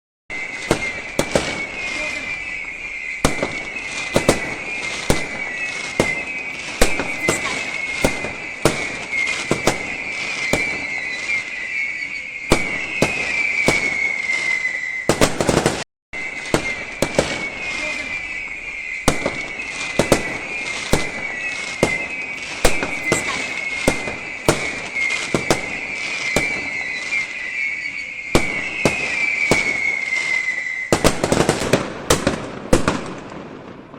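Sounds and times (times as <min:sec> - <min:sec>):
high falling whistles: 0:00.3 - 0:32.1
fireworks bangs and crackles: 0:00.3 - 0:33.9.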